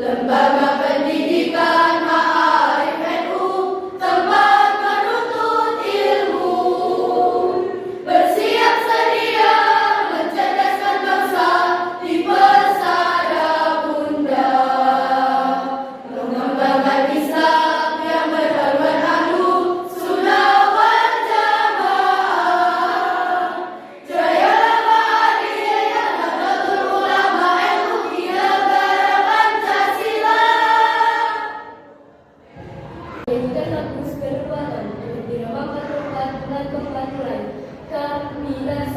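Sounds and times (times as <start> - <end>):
choir singing: 0.0 - 33.7.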